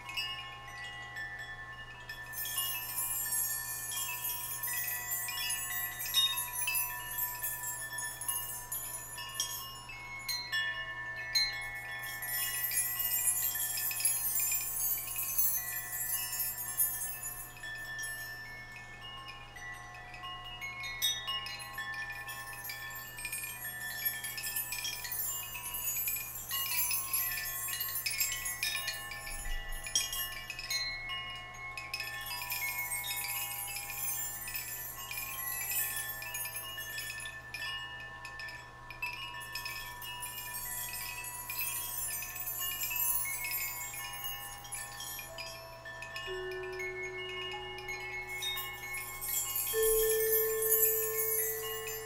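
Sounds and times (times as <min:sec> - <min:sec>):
metal chimes jingling: 0:00.0 - 0:52.0.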